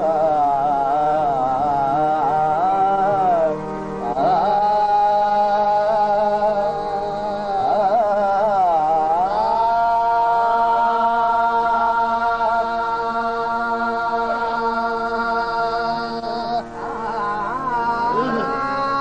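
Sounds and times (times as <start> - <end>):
harmonium tones: 0.0 - 19.0.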